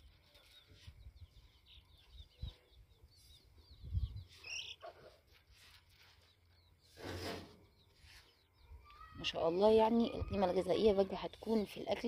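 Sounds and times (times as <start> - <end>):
high bird chirps: 0.3 - 5.2, 6.2 - 11.9.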